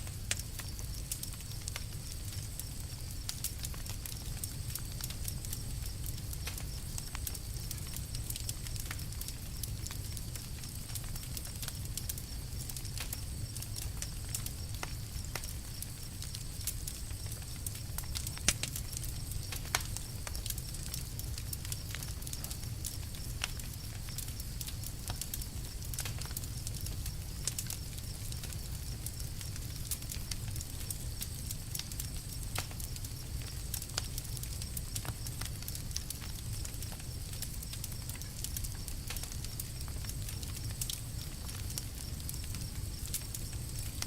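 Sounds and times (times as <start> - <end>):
campfire crackling and popping: 0.0 - 44.0
low rumble of fire: 0.0 - 44.0.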